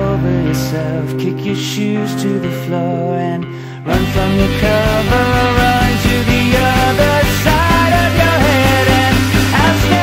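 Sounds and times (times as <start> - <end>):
full-band music with heavy bass: 0.0 - 10.0.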